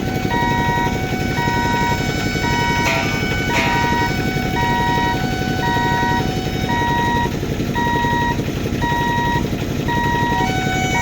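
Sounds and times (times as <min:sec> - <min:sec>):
level crossing warning beeps: 0:00.0 - 0:11.0
passing train rumble: 0:00.0 - 0:11.0.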